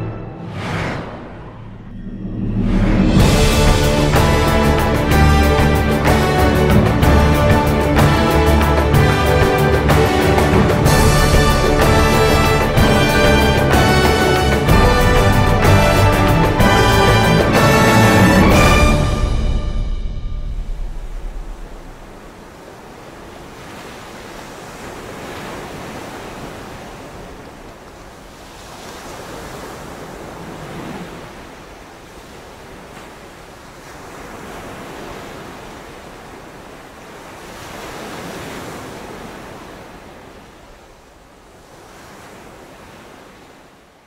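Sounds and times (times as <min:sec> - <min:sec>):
sea waves washing: 0:00.0 - 0:44.0.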